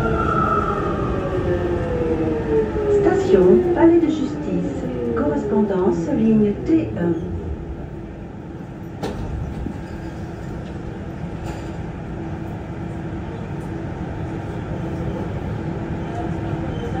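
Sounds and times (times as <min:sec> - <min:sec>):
train tyres rumbling: 0:00.0 - 0:17.0.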